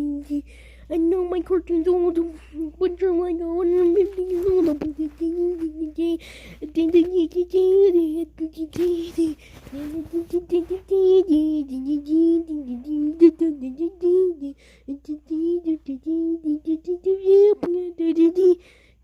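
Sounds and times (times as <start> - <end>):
child singing wordless tune: 0.0 - 18.7.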